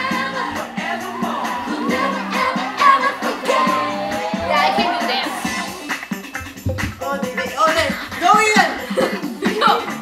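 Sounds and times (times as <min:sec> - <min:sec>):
upbeat pop song with vocals: 0:00.0 - 0:10.0.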